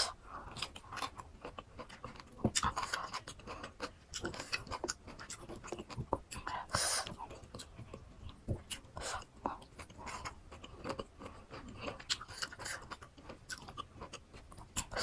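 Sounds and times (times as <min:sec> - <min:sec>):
chewing crunchy fruit: 0:00.0 - 0:15.0.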